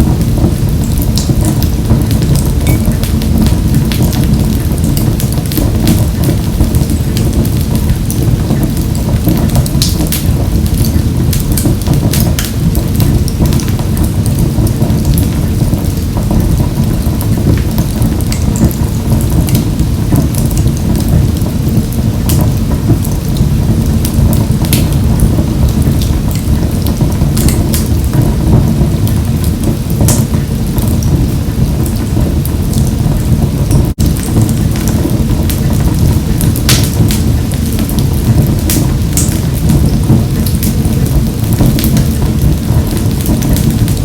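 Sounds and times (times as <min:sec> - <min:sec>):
wood fire burning in a stove: 0:00.0 - 0:44.0.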